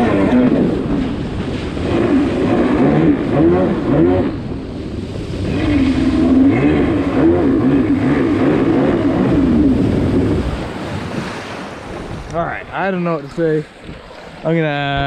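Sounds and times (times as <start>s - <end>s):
jet ski engine running hard: 0.0s - 15.0s.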